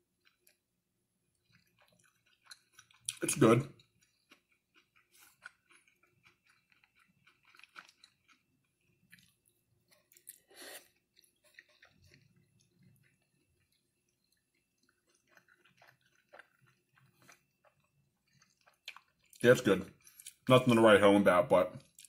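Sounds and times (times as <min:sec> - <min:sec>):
person chewing food: 0:00.0 - 0:20.5, 0:21.8 - 0:22.0.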